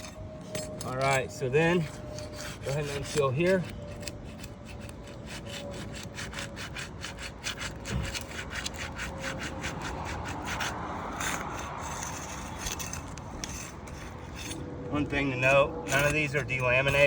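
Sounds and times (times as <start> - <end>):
shingle seal tearing: 0.0 - 17.0
tool scraping under shingles: 0.0 - 17.0.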